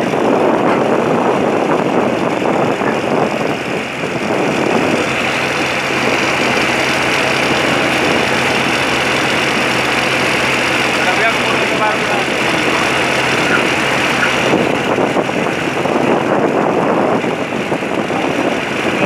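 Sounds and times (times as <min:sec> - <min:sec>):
continuous rushing noise: 0:00.0 - 0:19.0
tractor engine hum: 0:00.0 - 0:19.0.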